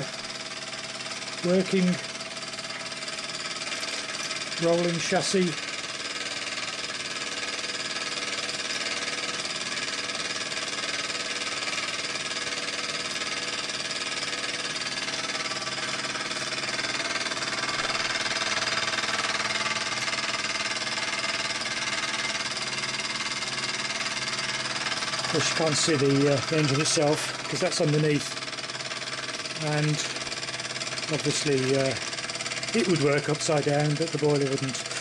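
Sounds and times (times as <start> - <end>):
model steam engine running fast: 0.0 - 35.0.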